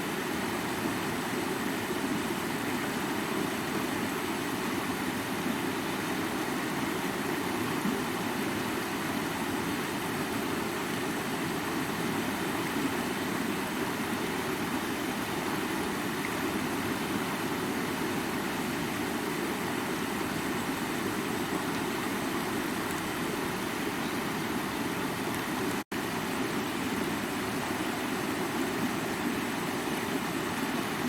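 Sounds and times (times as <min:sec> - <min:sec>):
stream water splashing over rocks: 0:00.0 - 0:31.0.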